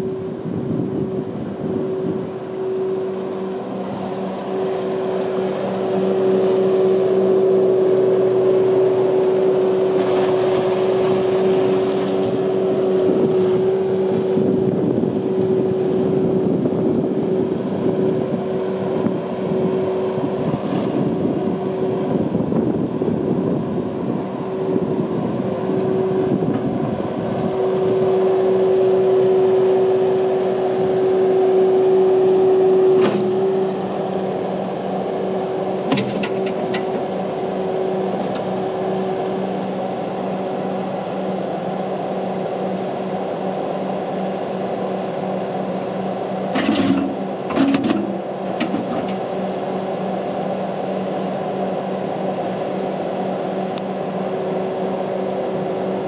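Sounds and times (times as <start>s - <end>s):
diesel engine running with whine: 0.0s - 56.0s.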